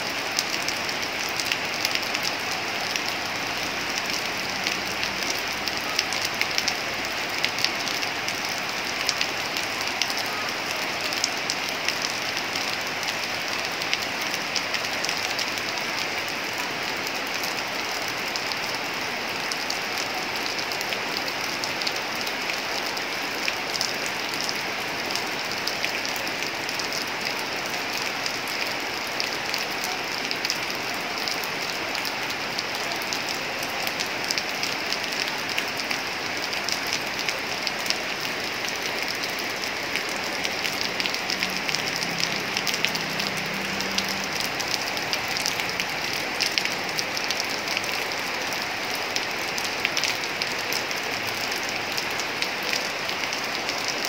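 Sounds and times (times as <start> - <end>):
heavy rain on metal roofs: 0.0 - 54.0.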